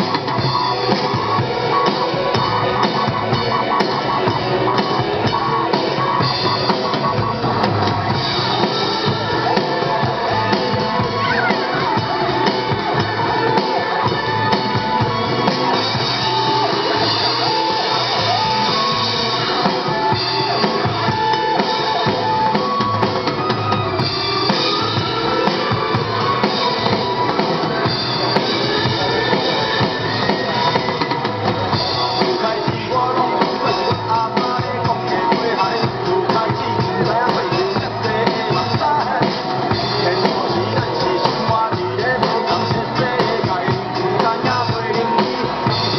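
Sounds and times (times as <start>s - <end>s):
drum kit beat: 0.0s - 45.9s
guitar: 0.0s - 45.9s
live rock band: 0.0s - 45.9s.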